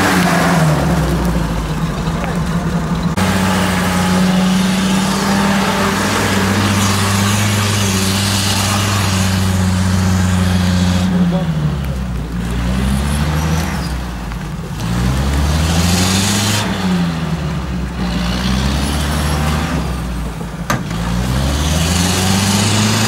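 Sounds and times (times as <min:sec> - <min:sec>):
engine revving: 0:00.0 - 0:23.0
tyres spinning in mud: 0:00.0 - 0:23.0.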